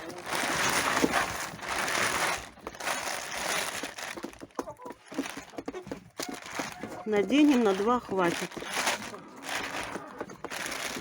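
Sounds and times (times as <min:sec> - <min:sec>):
rustling and crumpling: 0:00.0 - 0:11.0.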